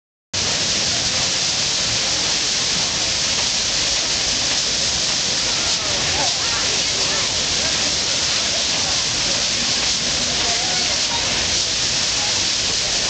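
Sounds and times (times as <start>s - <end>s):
waterfall rushing: 0.4s - 13.0s.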